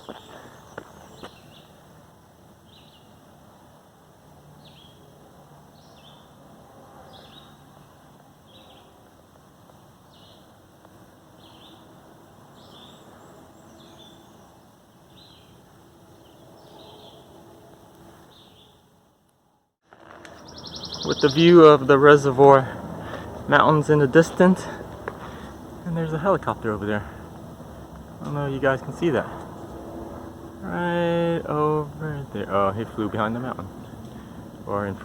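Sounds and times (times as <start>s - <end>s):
songbird singing: 0.0s - 2.0s, 2.6s - 3.3s, 4.5s - 6.4s, 7.0s - 9.1s, 10.1s - 10.5s, 11.3s - 17.6s, 18.2s - 18.9s, 20.2s - 35.0s.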